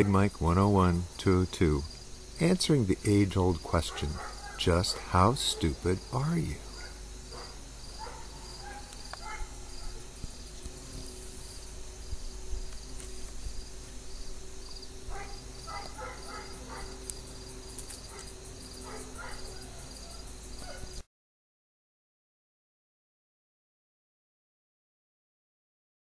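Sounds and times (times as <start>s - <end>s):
crickets chirping: 0.0s - 21.0s
faint low hum: 0.0s - 21.0s.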